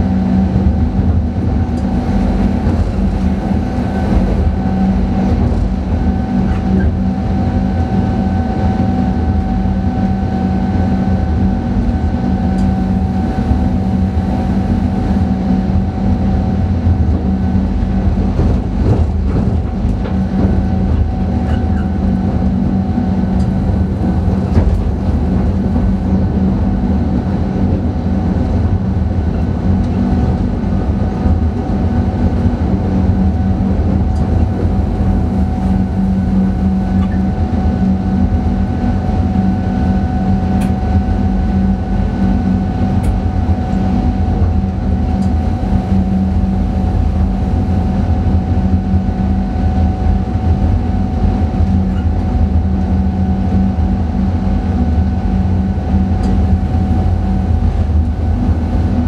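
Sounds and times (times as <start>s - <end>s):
electrical hum and whine: 0.0s - 59.0s
train wheels rumbling on rail: 0.0s - 59.0s.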